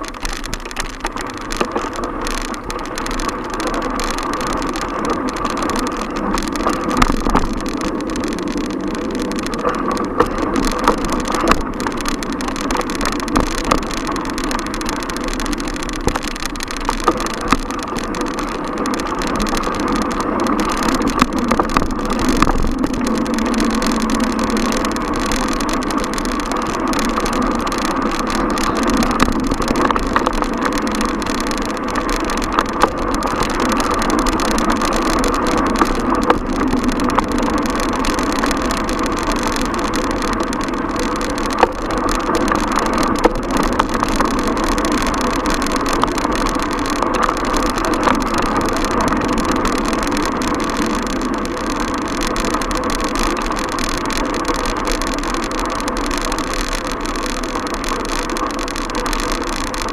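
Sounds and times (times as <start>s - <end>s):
bicycle clicks and rattles: 0.0s - 59.9s
city traffic noise: 0.0s - 59.9s.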